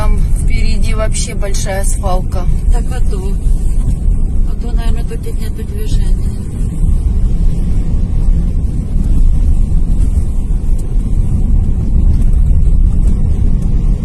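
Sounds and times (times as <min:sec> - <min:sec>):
car engine: 0:00.0 - 0:14.0
tyre and road noise: 0:00.0 - 0:14.0.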